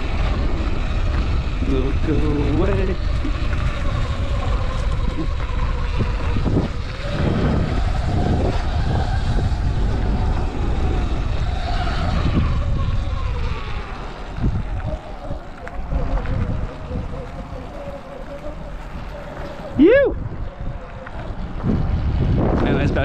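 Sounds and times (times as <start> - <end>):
electric motorbike motor whining: 0.0 - 23.0
wind rumble on microphone: 0.0 - 23.0.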